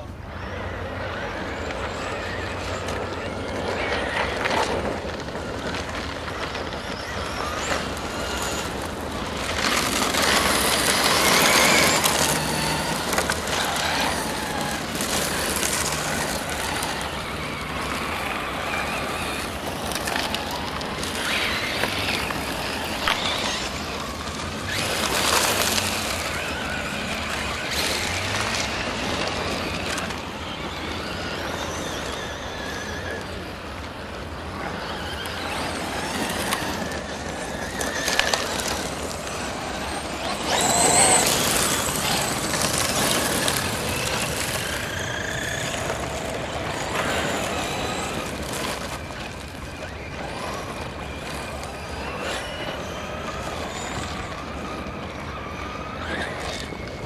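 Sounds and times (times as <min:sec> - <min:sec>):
electric motor whine: 0:00.0 - 0:57.0
tyres spraying gravel: 0:03.8 - 0:32.8, 0:34.7 - 0:52.3.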